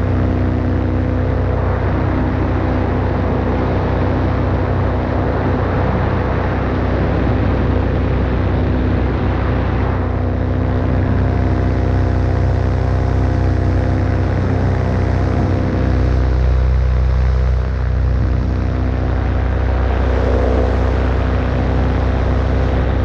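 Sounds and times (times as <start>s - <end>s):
paramotor engine droning: 0.0s - 23.0s.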